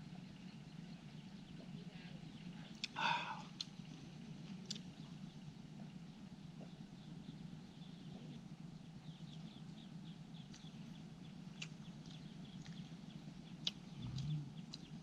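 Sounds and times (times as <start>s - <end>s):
faint rapid chirping: 0.0s - 15.0s
low steady hum: 0.0s - 15.0s.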